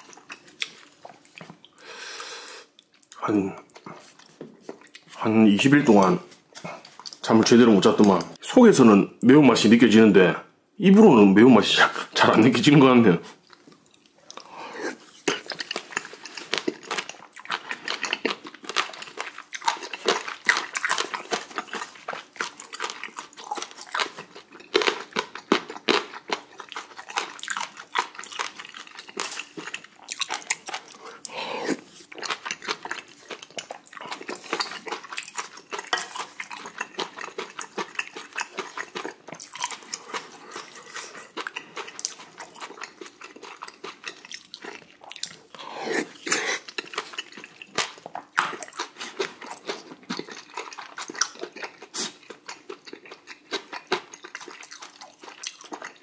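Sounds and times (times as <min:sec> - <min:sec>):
chewing and lip smacking: 0:00.0 - 0:01.8, 0:02.7 - 0:05.2, 0:06.5 - 0:07.2, 0:13.3 - 0:56.0.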